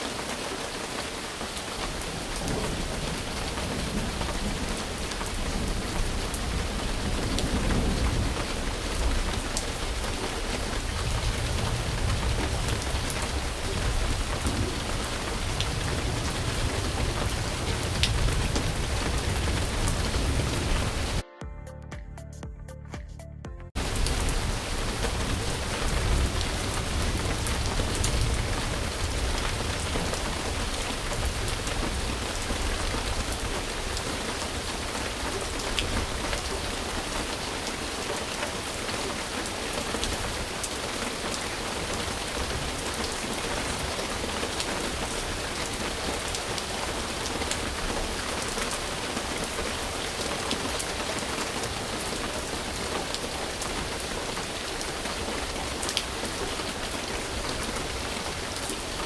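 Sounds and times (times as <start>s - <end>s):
steady rain falling: 0.0s - 21.2s, 23.8s - 59.0s.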